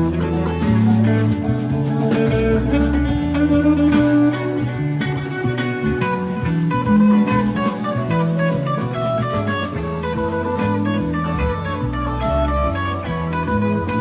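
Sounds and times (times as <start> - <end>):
bass line: 0.0 - 14.0
live band playing: 0.0 - 14.0.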